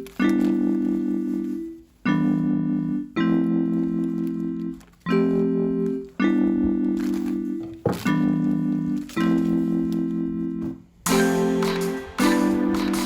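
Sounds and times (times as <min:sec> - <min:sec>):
sustained keyboard chords: 0:00.0 - 0:13.0.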